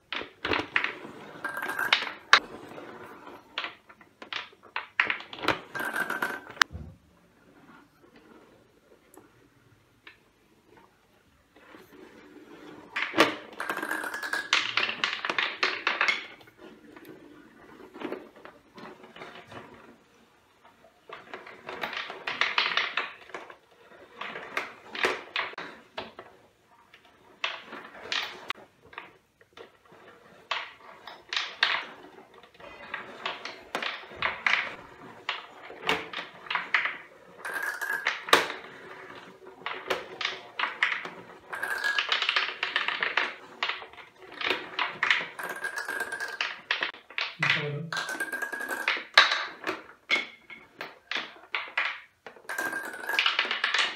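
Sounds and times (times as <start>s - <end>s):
balls clattering on wooden tracks: 0.0s - 53.9s.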